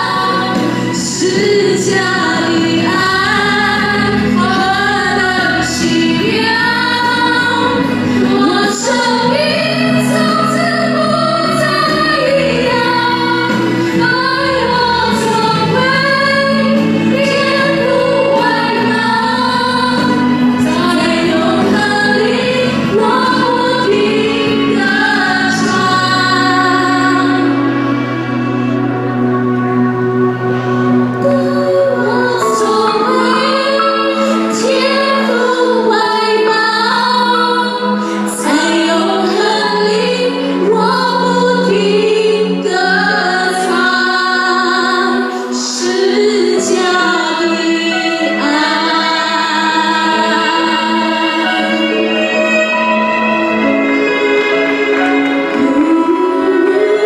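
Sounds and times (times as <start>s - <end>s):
instrumental accompaniment: 0.0s - 57.0s
women singing in unison: 0.0s - 57.0s.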